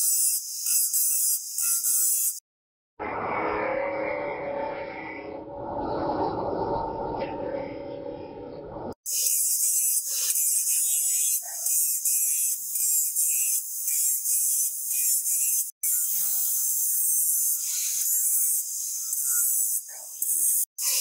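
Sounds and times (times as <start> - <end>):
angle grinder grinding steel: 3.0 - 21.0.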